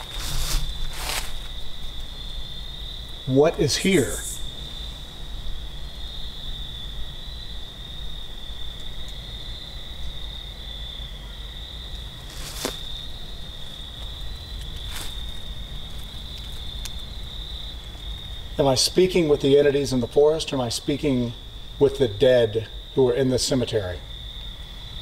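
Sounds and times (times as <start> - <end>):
night insects trilling: 0.0 - 25.0.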